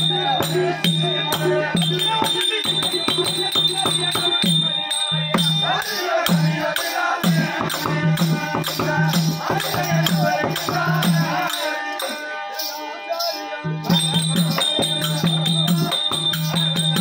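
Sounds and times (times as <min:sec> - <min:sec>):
drum beating rhythm: 0:00.0 - 0:12.2, 0:13.7 - 0:17.0
jingling metal percussion: 0:00.0 - 0:17.0.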